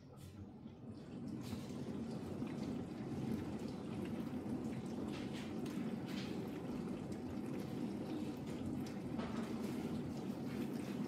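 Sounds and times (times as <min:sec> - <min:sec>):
dishwasher water rushing and splashing: 0:00.4 - 0:11.0.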